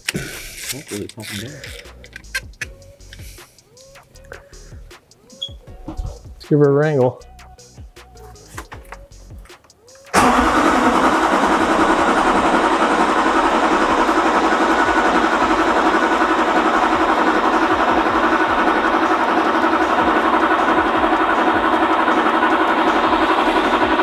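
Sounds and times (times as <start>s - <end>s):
engine cranking by starter: 0.0s - 6.3s, 8.1s - 24.0s.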